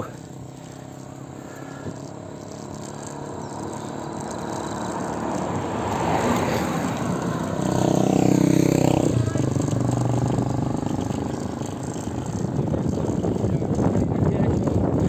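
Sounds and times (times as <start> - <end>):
vehicle engine approaching: 0.0 - 15.0.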